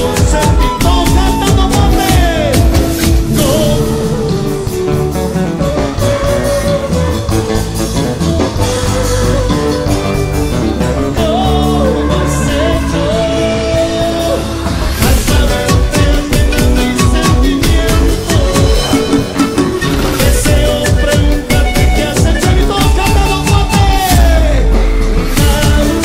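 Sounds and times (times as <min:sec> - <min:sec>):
dance music with singing: 0:00.0 - 0:05.2, 0:08.9 - 0:26.0.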